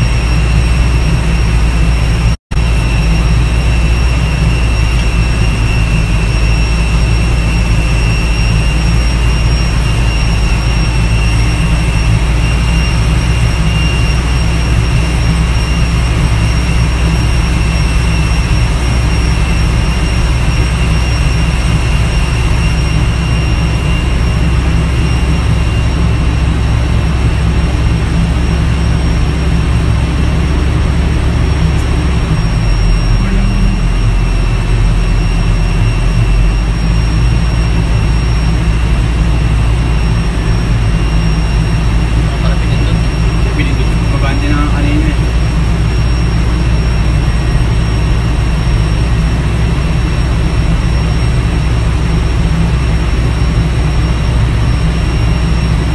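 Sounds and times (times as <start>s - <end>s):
high turbine whine: 0.0s - 55.9s
tug engine droning: 0.0s - 55.9s.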